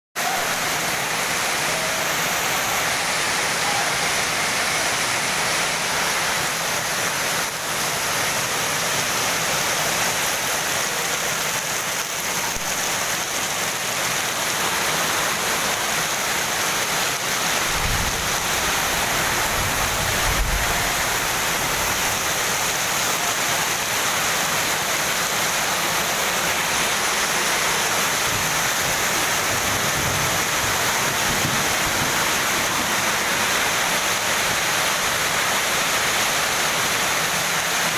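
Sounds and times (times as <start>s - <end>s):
heavy rain: 0.2s - 37.9s.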